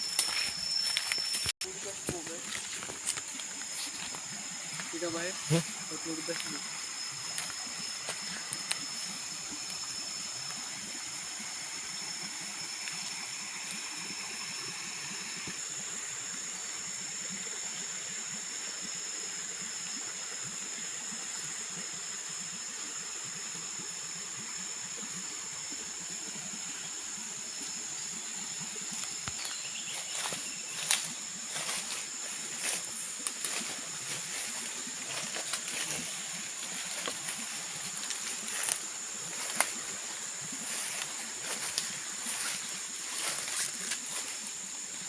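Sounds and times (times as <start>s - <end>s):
insect chorus drone: 0.0s - 45.0s
steady hiss: 0.0s - 45.0s.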